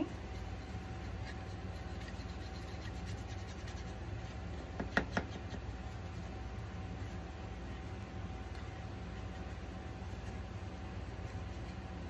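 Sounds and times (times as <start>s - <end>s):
paintbrush scratching on wood: 0.0s - 12.0s.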